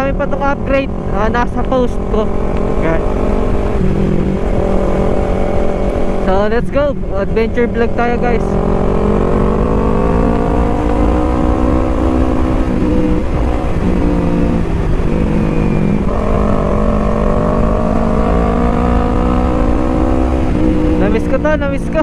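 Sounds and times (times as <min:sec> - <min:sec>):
motorcycle engine revving: 0:00.0 - 0:22.0
wind rumble: 0:00.0 - 0:22.0.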